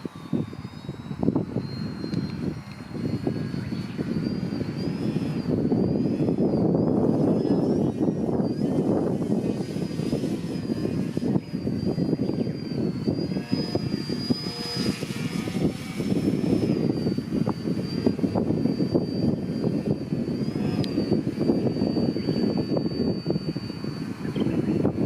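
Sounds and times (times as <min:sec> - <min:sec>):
model airplane motor whine: 0:00.0 - 0:25.0
wind buffeting microphone: 0:00.0 - 0:25.0.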